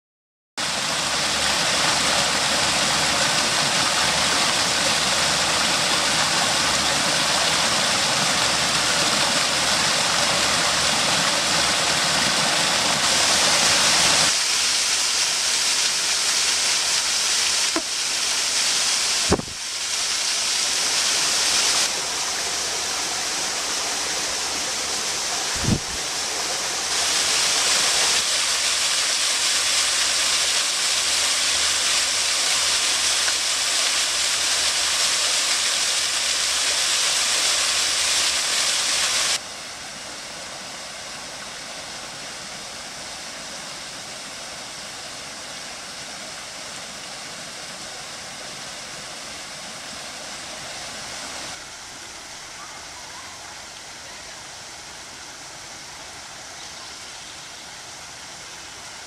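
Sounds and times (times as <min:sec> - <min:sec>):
waterfall rushing over rocks: 0:00.6 - 0:59.0.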